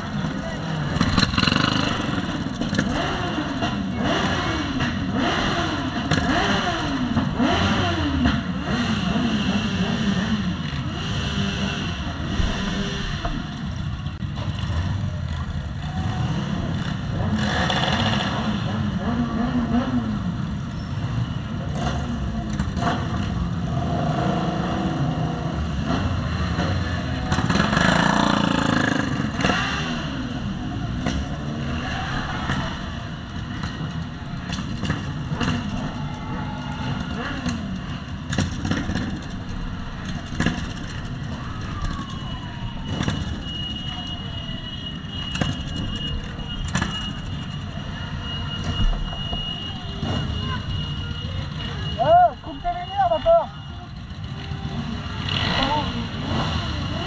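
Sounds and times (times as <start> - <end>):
motorcycle engines revving: 0.0 - 57.0
motorcycles riding by: 0.0 - 57.0.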